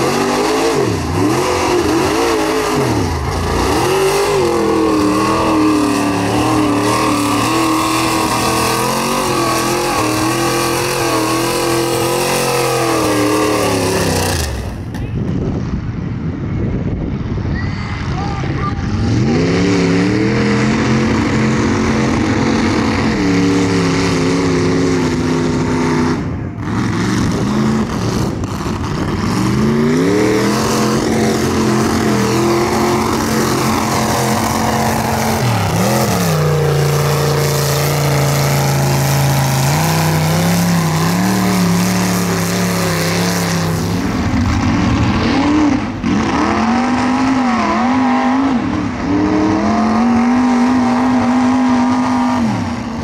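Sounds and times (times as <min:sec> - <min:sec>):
tyres churning mud: 0:00.0 - 0:15.1, 0:19.1 - 0:53.0
truck engines revving: 0:00.0 - 0:53.0.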